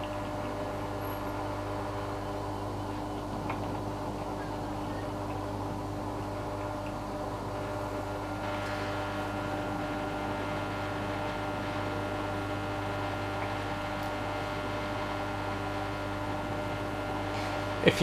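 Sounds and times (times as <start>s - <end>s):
dishwasher motor hum with hiss: 0.0s - 18.0s.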